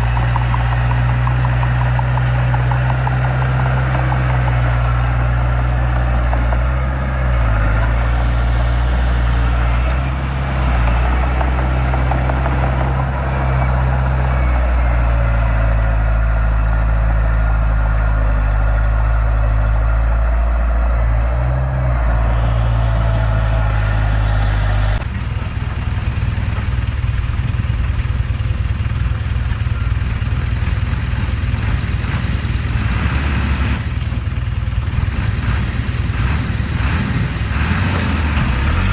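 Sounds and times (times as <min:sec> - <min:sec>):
heavy diesel engine running: 0:00.0 - 0:38.9
rough chattering engine: 0:00.0 - 0:38.9.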